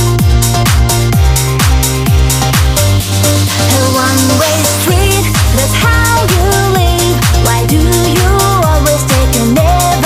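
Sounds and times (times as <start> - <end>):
kick drum: 0.0 - 3.2, 4.9 - 10.0
electronic dance music: 0.0 - 10.0.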